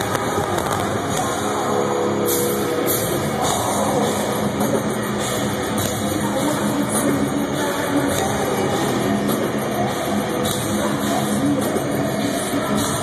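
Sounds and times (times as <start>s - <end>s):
distorted electric guitars: 0.0s - 13.0s
drum kit: 0.0s - 13.0s.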